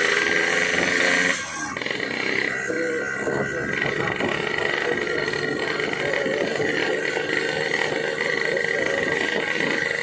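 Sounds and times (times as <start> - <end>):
two-stroke motorcycle engine: 0.0 - 10.0.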